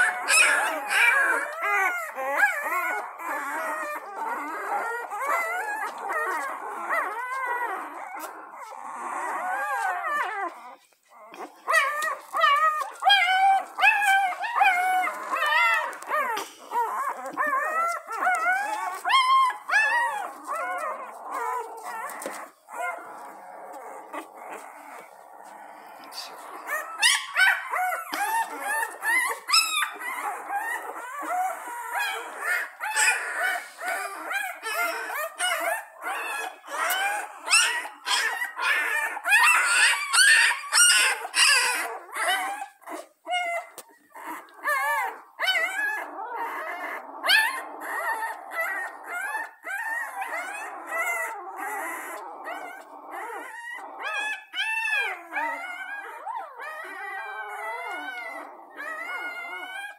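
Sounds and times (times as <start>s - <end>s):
puppies squealing and whimpering: 0.0s - 59.9s.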